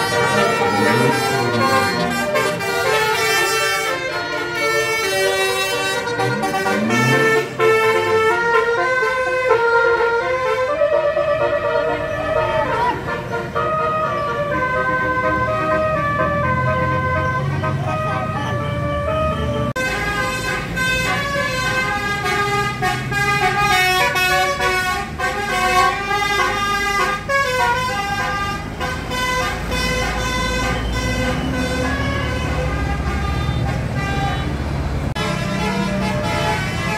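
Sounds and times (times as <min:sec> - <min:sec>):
musical bus horn tune: 0:00.0 - 0:36.9.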